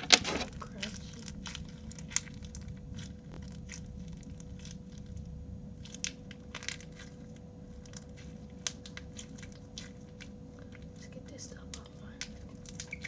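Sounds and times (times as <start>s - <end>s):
crunchy slime crackling and popping: 0.0s - 13.0s.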